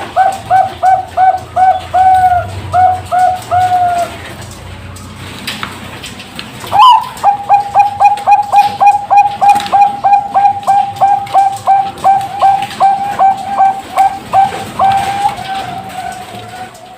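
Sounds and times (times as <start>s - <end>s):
dove cooing: 0.0s - 4.4s, 6.7s - 16.9s.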